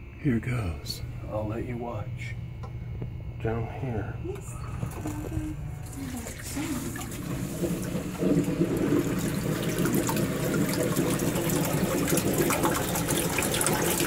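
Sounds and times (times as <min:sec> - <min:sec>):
sump pump running: 0:00.0 - 0:14.0.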